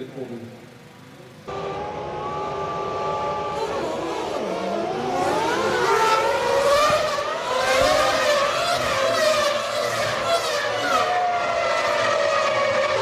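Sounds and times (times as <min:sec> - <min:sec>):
racing car engines revving: 0:00.8 - 0:13.0.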